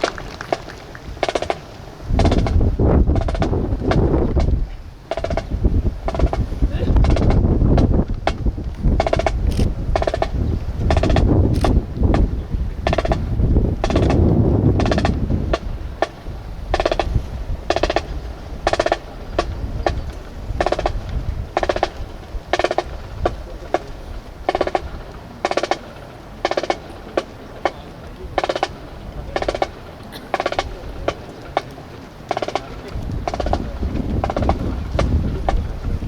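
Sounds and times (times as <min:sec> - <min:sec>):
snare drum marching cadence: 0:00.0 - 0:35.9.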